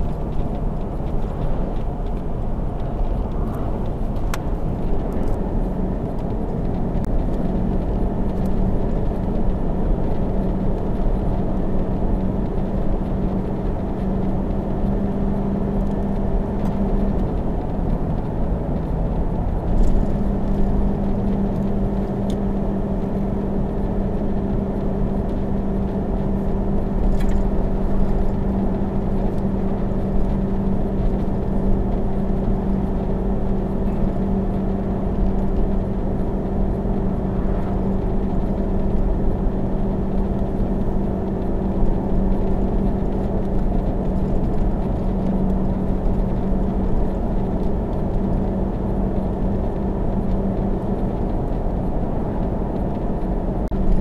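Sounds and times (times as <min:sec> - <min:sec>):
road and wind noise: 0:00.0 - 0:54.0
vehicle engine droning under load: 0:00.0 - 0:54.0.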